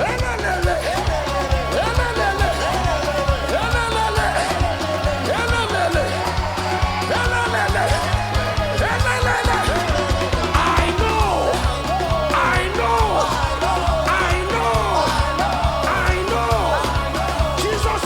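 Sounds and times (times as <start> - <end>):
live band playing: 0.0 - 18.0
voices singing and shouting: 0.0 - 18.0.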